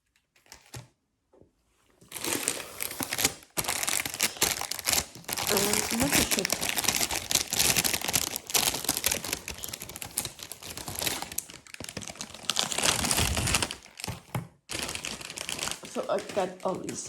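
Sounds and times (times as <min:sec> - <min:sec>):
plastic packaging crinkling: 0:02.0 - 0:17.0.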